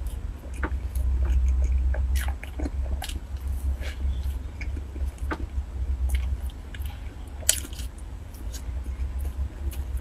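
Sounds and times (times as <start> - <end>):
steady low hum: 0.0 - 10.0
wet squishy chewing: 0.0 - 10.0.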